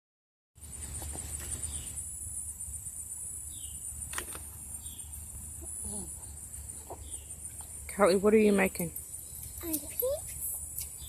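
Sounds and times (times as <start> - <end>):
insects trilling: 0.6 - 11.0.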